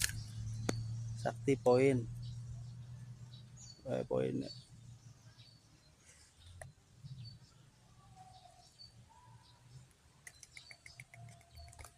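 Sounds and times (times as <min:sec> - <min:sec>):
birdsong chirps: 0:00.0 - 0:11.9.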